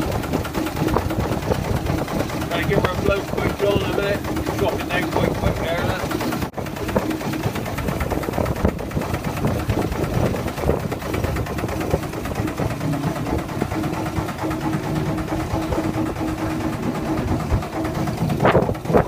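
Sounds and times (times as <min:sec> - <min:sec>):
boat engine clattering: 0:00.0 - 0:19.0.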